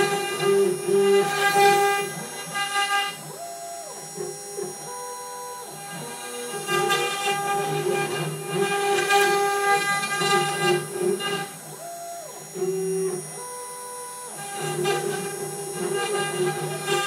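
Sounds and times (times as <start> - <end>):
machine whine of held tones: 0.0 - 17.0
router bit rasping through wood: 0.0 - 17.0.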